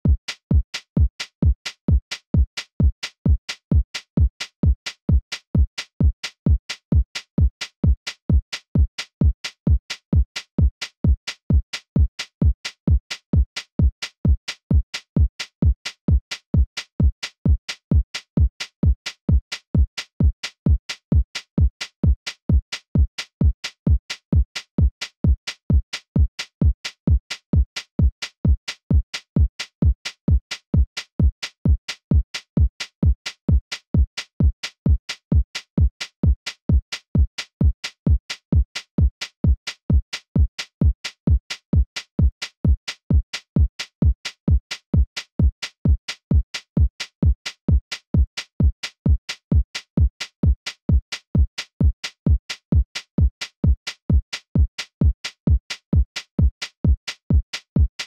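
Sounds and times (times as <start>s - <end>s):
drum machine hi-hat: 0.0s - 58.0s.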